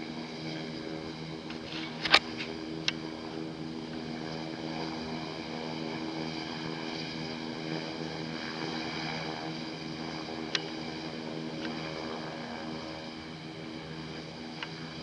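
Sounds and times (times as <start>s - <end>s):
high turbine whine: 0.0s - 15.0s
propeller drone: 0.0s - 15.0s.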